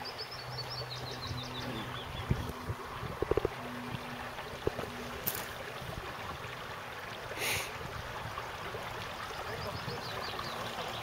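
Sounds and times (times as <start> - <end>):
stream trickling over stones: 0.0 - 11.0.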